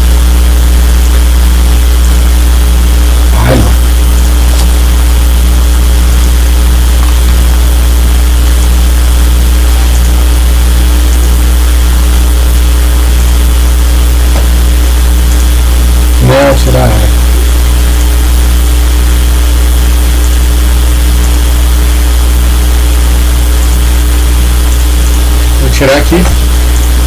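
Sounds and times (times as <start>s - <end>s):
low electrical mains hum: 0.0s - 27.0s.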